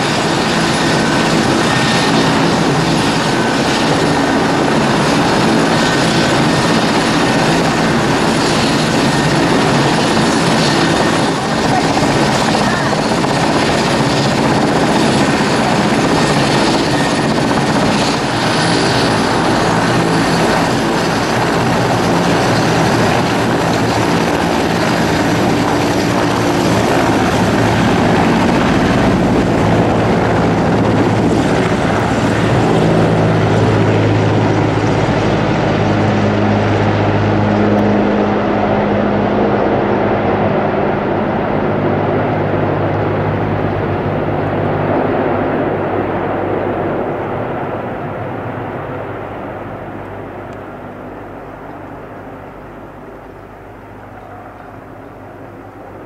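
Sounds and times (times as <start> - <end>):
helicopter rotor beat: 0.0 - 56.0
helicopter turbine noise: 0.0 - 56.0.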